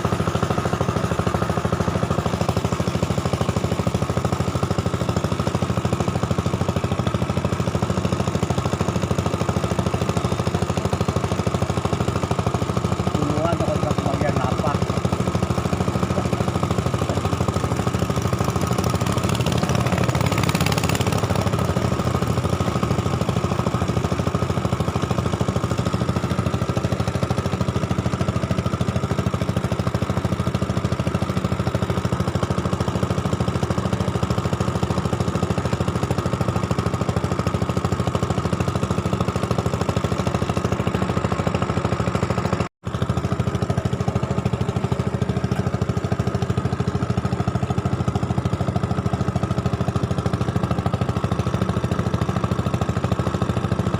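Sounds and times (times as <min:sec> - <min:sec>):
small engine chugging: 0:00.0 - 0:53.9.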